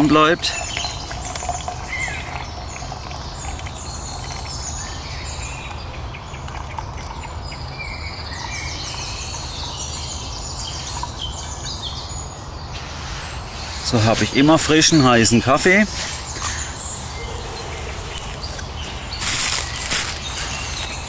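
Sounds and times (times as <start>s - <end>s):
small birds singing and chirping: 0.0s - 21.0s.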